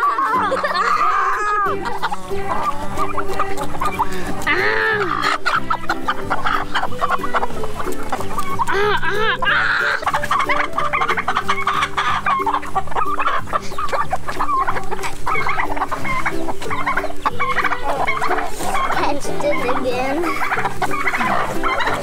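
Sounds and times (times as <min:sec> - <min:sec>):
background music: 0:00.0 - 0:22.0
chickens clucking: 0:00.0 - 0:22.0.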